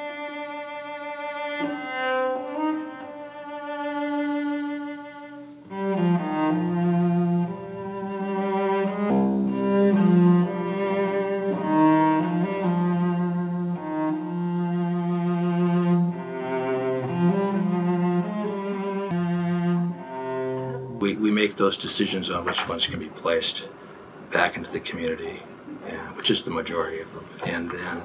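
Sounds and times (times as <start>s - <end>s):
slow bowed string music: 0.0s - 22.6s
cello line: 0.0s - 28.0s.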